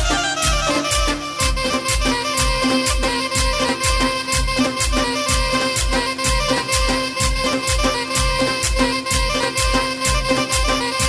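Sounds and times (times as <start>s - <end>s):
electronic keyboard melody: 0.0s - 11.0s
heavy drum beat: 0.0s - 11.0s.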